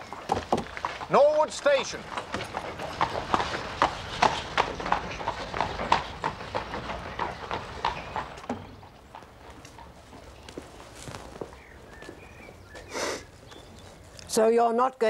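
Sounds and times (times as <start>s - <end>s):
horse hooves clip-clopping: 0.0s - 14.4s.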